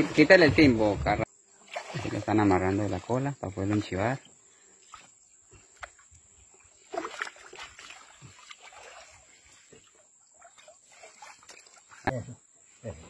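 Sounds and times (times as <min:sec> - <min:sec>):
water splashing against canoe: 0:00.0 - 0:12.2.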